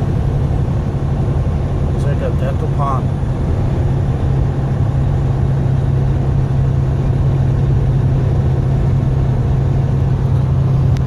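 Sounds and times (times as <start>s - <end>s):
engine and road noise in cab: 0.0s - 11.0s.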